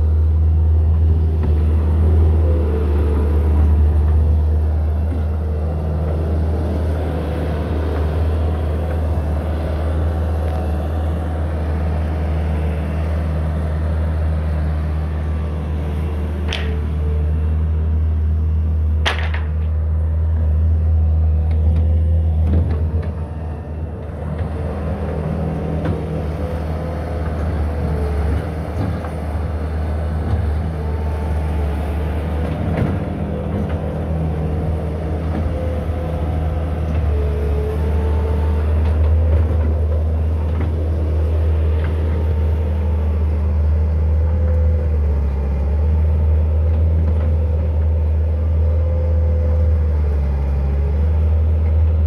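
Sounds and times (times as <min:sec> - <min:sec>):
diesel loader engine humming: 0:00.0 - 0:52.0.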